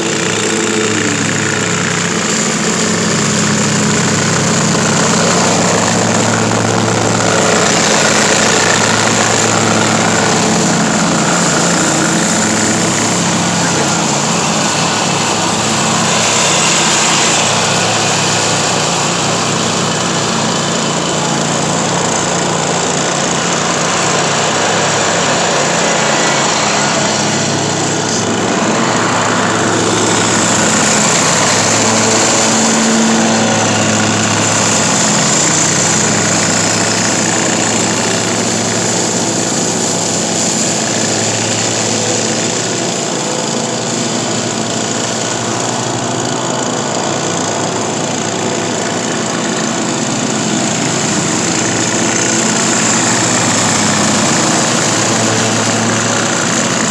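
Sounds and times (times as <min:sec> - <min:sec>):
riding lawn mower chopping leaves: 0:00.0 - 0:56.9.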